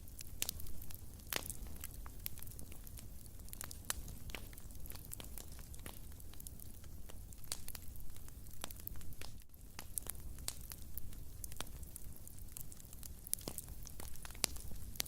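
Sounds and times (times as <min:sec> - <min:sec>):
low rumble of burning: 0:00.0 - 0:15.0
sharp pops from fire: 0:00.0 - 0:15.0
wood fire crackling: 0:00.0 - 0:15.0.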